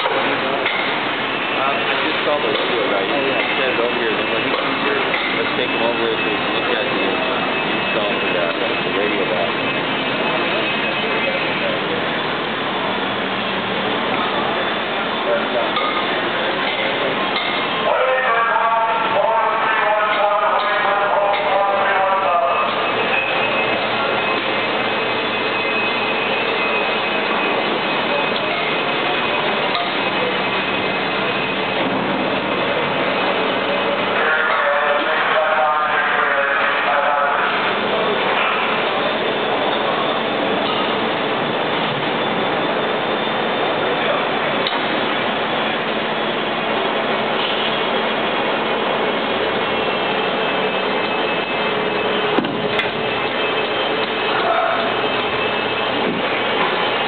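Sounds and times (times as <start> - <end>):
factory machinery hiss and hum: 0.0 - 57.0
faint high steady tones: 0.0 - 57.0.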